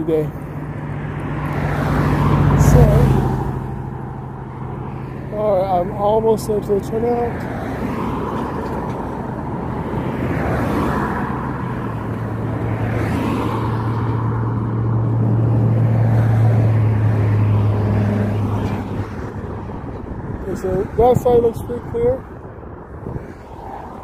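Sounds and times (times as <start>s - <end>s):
cars passing: 0.0s - 24.0s.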